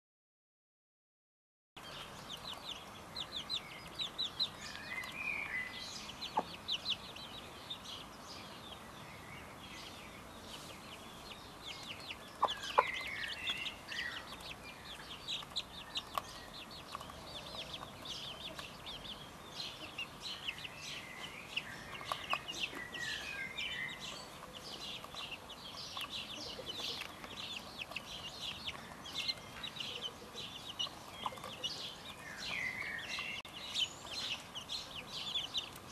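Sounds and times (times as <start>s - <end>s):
chicks peeping: 1.8s - 35.9s.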